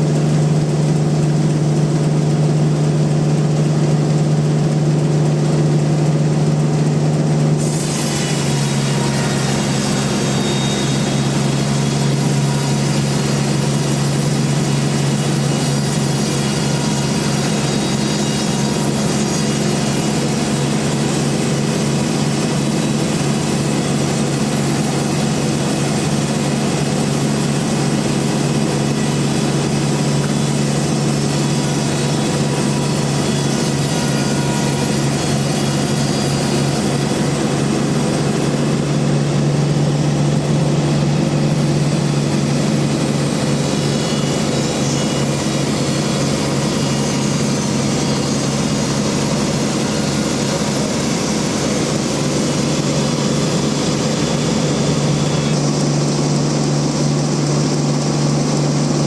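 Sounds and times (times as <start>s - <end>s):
saw blade cutting wood: 0.0s - 59.0s
sawmill motor hum: 0.0s - 59.0s.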